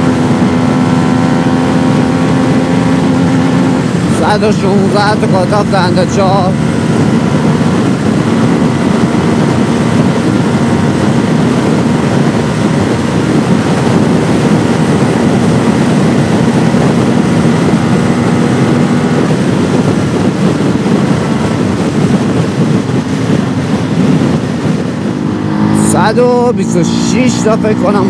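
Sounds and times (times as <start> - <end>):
motorcycle engine at high revs: 0.0 - 28.0
wind buffeting microphone: 0.0 - 28.0.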